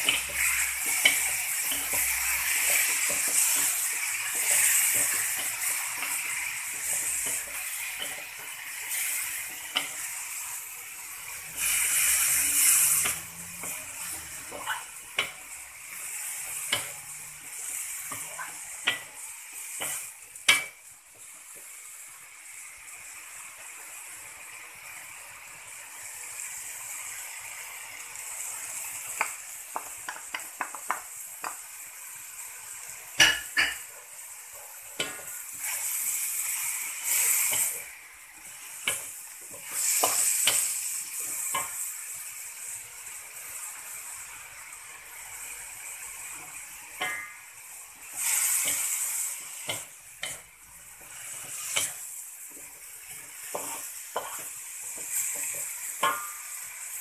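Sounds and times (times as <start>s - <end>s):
spatula knocking wok: 0.0s - 21.8s, 28.8s - 32.1s, 33.0s - 42.7s, 45.8s - 57.0s
spatula scraping wok: 0.0s - 22.6s, 31.9s - 57.0s
leaves sizzling in hot oil: 0.0s - 57.0s.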